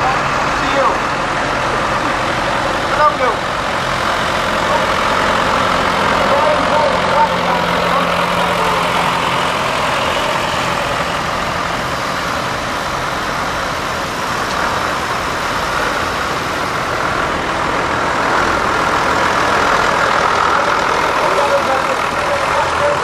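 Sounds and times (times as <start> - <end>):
tractor engines running: 0.0 - 23.0.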